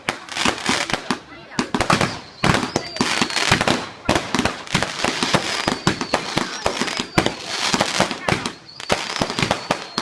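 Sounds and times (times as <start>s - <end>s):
fireworks bangs and crackles: 0.0s - 10.0s
firework whistle: 1.8s - 10.0s.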